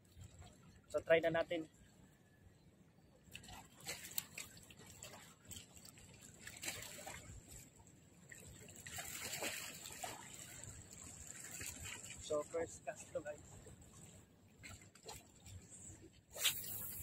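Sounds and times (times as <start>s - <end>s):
small splashes: 3.2s - 17.0s
sea water lapping against rocks: 3.3s - 17.0s.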